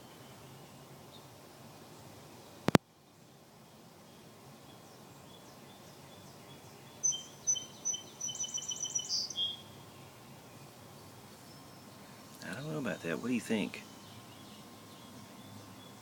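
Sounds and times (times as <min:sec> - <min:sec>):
faint background noise: 0:00.0 - 0:16.0
small songbird singing: 0:00.0 - 0:16.0.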